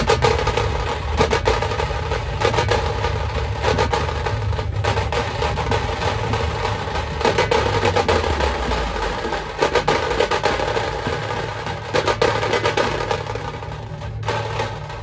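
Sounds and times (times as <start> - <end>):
procession band fast drumming: 0.0 - 15.0.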